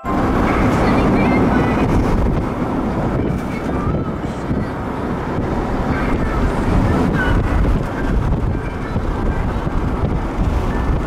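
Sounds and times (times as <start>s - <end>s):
car road and engine noise: 0.0s - 11.0s
wind buffeting microphone: 0.0s - 11.0s.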